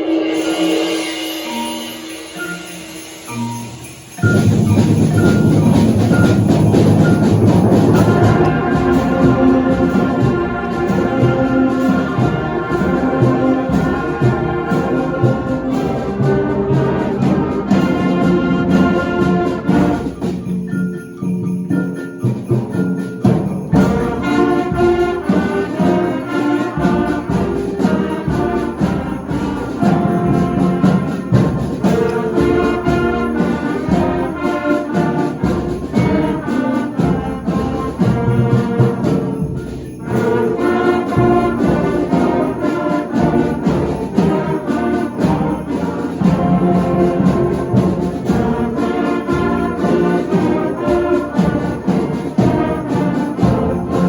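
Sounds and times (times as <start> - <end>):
concert band playing: 0.0 - 54.0.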